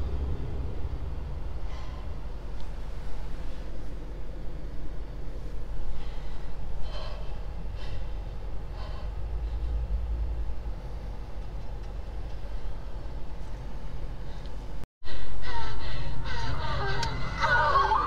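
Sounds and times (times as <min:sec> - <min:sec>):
low rumble inside car: 0:00.0 - 0:14.8.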